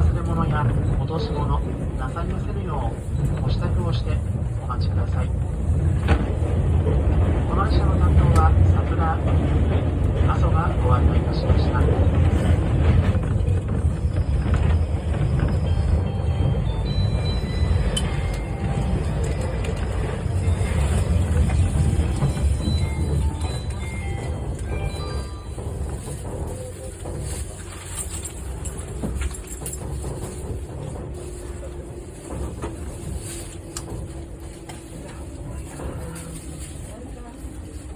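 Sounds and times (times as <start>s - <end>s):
train running rumble: 0.0s - 37.9s.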